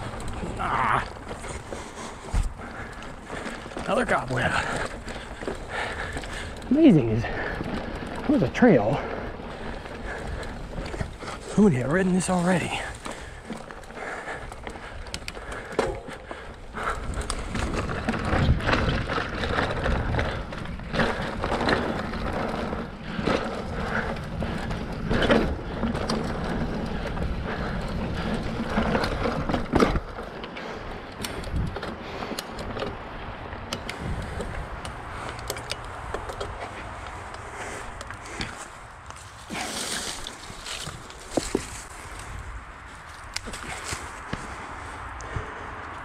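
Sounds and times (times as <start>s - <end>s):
bike knocking over bumps: 0.0s - 30.2s, 31.3s - 44.7s
bike tyres rattling on dirt: 0.0s - 46.0s.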